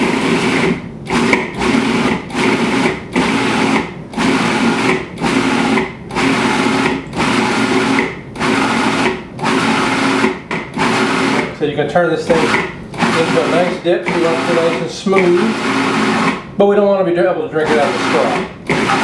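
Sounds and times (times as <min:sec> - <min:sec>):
food processor pulsing: 0:00.0 - 0:11.6, 0:12.2 - 0:16.5, 0:17.6 - 0:19.0.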